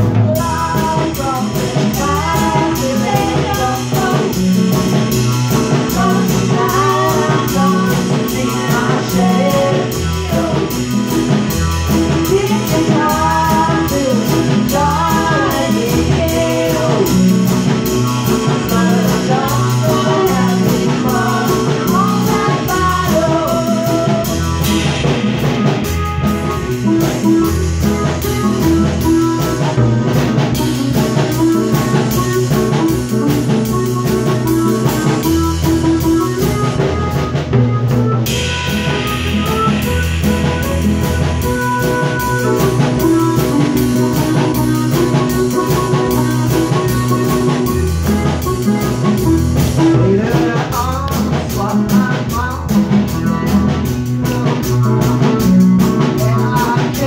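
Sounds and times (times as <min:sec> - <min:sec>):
drum kit beat: 0:00.0 - 0:57.0
electronic keyboards: 0:00.0 - 0:57.0
person singing: 0:00.0 - 0:57.0.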